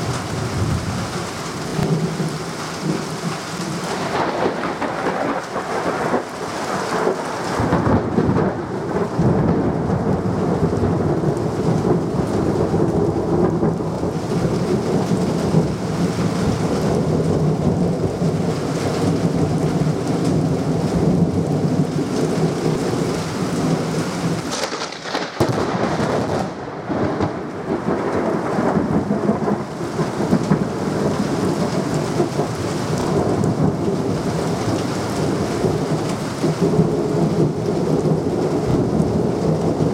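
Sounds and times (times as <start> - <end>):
heavy rain: 0.0 - 39.9
rolling thunder: 0.0 - 39.9.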